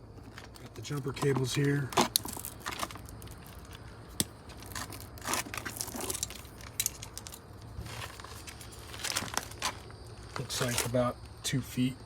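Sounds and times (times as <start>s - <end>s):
cables rustling and scraping: 0.0s - 11.4s.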